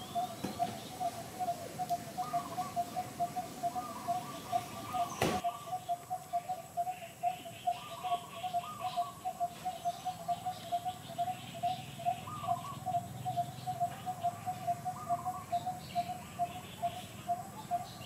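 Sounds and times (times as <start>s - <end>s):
higher bird chirps: 0.0s - 18.0s.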